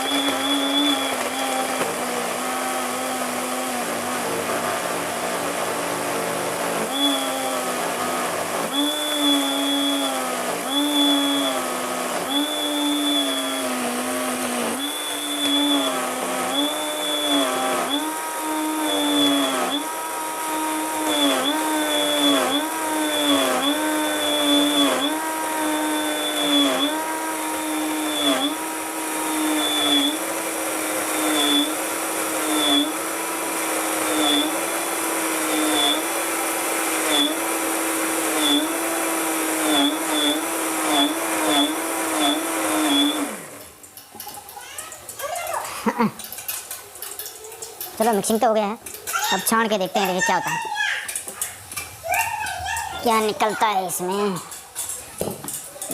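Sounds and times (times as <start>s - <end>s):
mixer grinder motor running: 0.0s - 51.9s, 52.6s - 55.9s.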